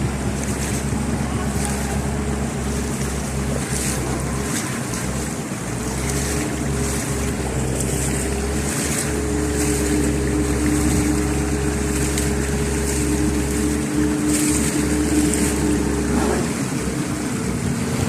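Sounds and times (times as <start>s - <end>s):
heavy rain pouring: 0.0s - 18.0s
steady hum: 0.0s - 18.0s
wind buffeting microphone: 0.0s - 18.0s.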